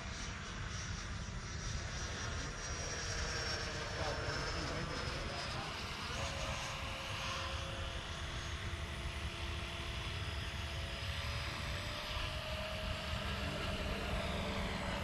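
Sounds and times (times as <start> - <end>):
ducted fan jet whine: 0.0 - 15.0.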